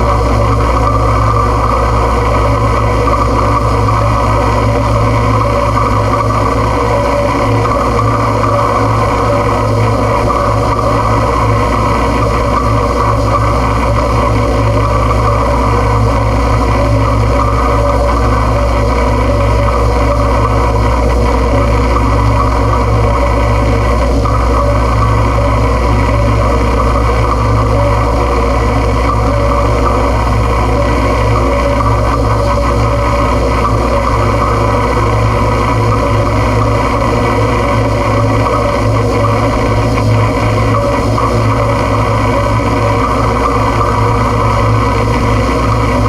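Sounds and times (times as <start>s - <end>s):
droning noise music: 0.0s - 46.0s
strong low hum: 0.0s - 46.0s.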